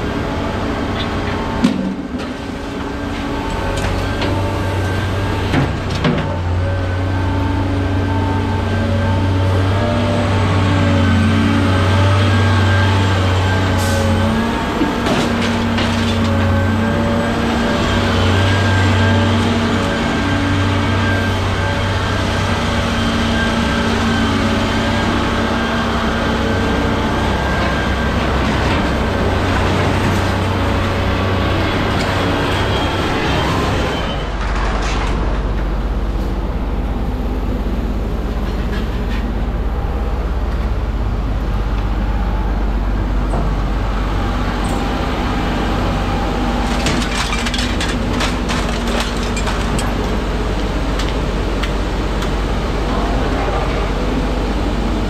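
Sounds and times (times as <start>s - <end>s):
machine hum with whine: 0.0s - 55.0s.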